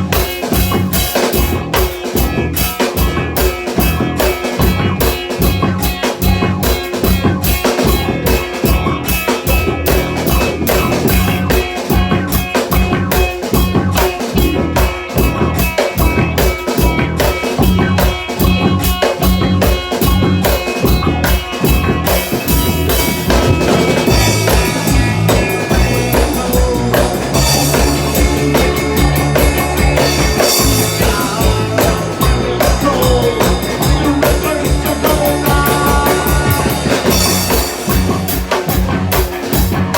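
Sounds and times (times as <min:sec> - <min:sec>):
drum kit fast beat: 0:00.0 - 0:39.9
rock band playing: 0:00.0 - 0:39.9.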